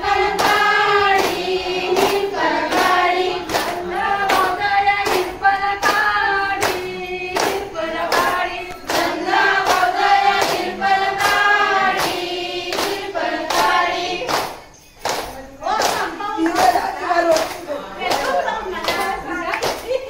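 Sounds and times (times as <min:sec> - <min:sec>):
sharp handclaps: 0:00.0 - 0:20.0
women singing in unison: 0:00.0 - 0:20.0.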